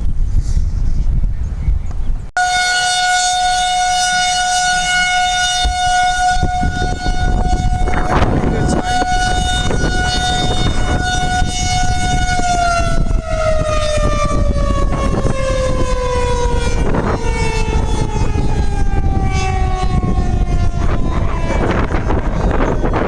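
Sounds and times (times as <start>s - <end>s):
tornado siren winding down: 2.4s - 23.0s.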